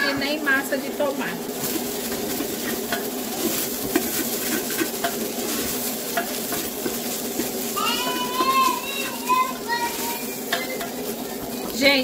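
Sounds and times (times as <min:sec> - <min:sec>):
meat and onion sizzling in a pot: 0:00.0 - 0:12.0.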